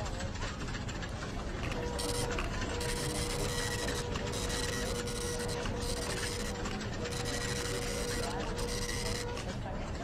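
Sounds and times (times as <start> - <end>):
office printer running: 0.2 - 10.0.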